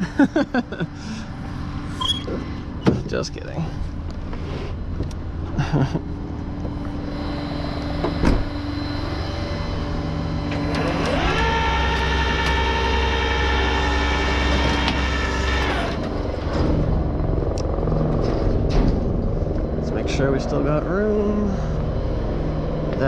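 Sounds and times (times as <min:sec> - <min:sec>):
tow truck engine idling and revving: 0:00.0 - 0:23.0.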